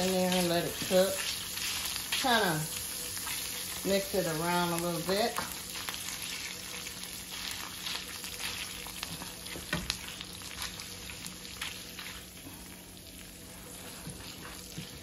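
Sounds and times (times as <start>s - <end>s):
beans sizzling in a skillet: 0.0s - 15.0s.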